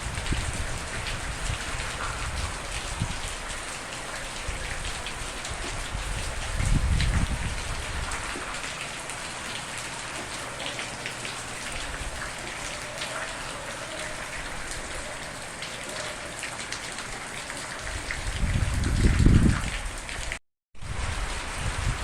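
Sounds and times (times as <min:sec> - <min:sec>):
raindrops ticking on a surface: 0:00.0 - 0:20.4
steady rain falling: 0:00.0 - 0:22.0.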